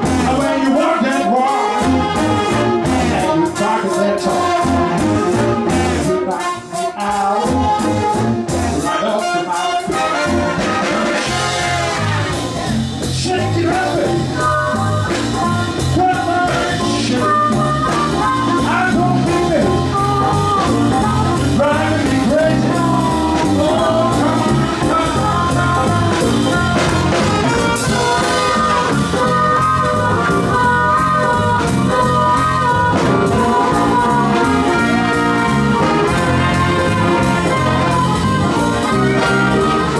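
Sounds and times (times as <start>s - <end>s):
brass band music with beat: 0.0s - 39.9s.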